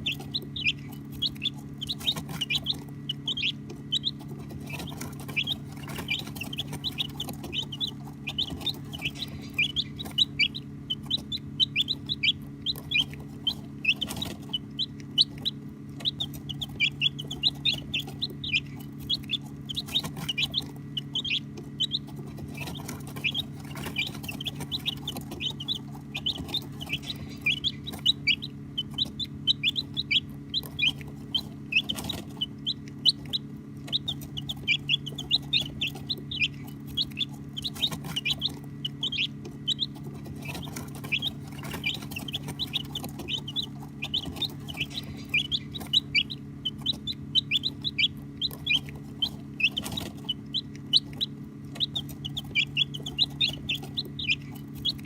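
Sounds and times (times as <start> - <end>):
baby chicks peeping: 0.0 - 55.0
steady low hum: 0.0 - 55.0.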